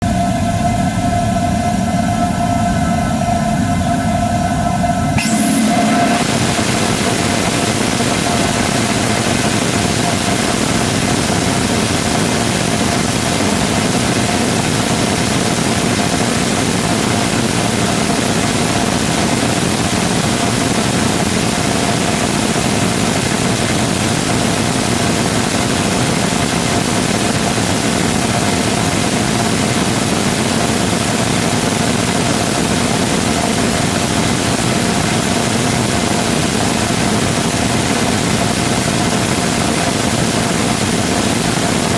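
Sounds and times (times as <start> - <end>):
rocket engine roar: 0.0 - 41.9
steady whine: 0.0 - 41.9.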